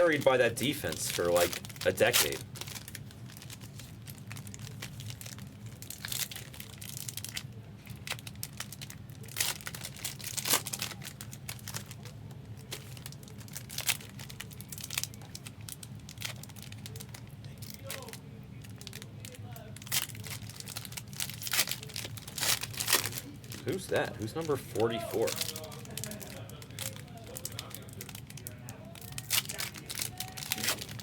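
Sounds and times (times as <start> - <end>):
foil wrapper crinkling and tearing: 0.0 - 31.0.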